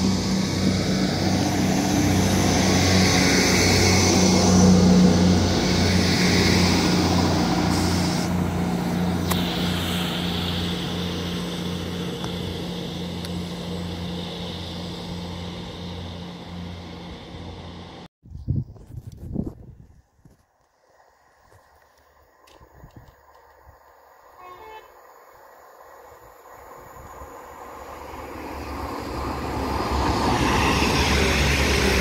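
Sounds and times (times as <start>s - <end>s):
diesel train engine drone: 0.0s - 18.1s, 20.8s - 32.0s
wheels hissing on rail: 0.0s - 18.1s, 22.6s - 32.0s.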